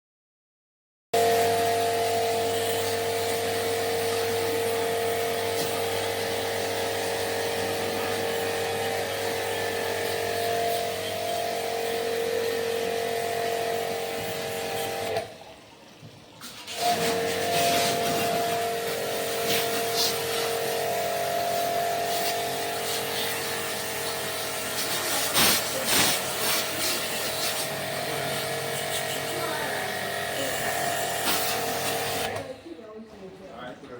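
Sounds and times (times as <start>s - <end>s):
electric motor buzzing: 1.2s - 15.3s, 16.7s - 32.5s.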